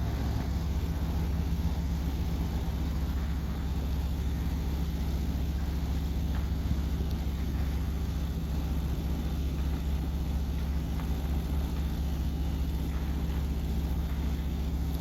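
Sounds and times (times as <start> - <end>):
low engine hum of vehicles: 0.0 - 15.0.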